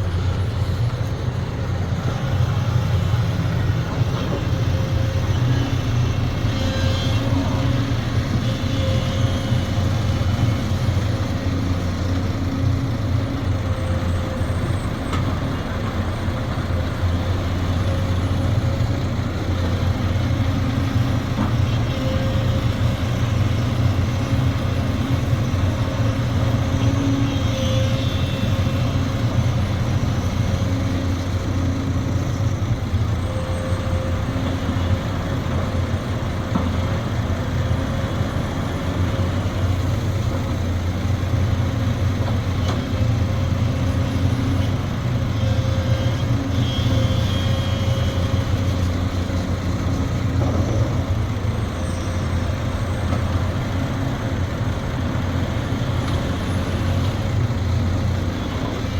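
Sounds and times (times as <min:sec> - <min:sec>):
excavator diesel engine drone: 0:00.0 - 0:58.9.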